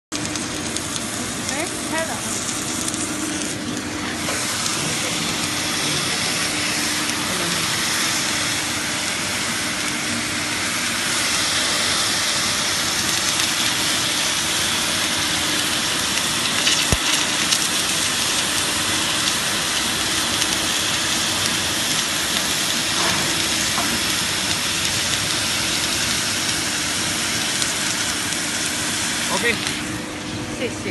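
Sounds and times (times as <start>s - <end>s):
welding rig hissing: 0.1s - 30.9s.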